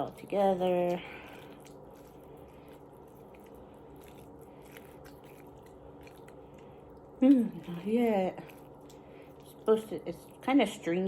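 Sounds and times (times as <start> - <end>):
slime squelching by hand: 0.0 - 11.0.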